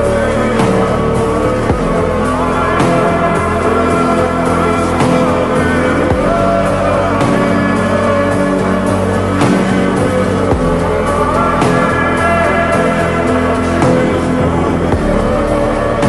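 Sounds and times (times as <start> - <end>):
slowed reverb-heavy pop song: 0.0 - 16.0.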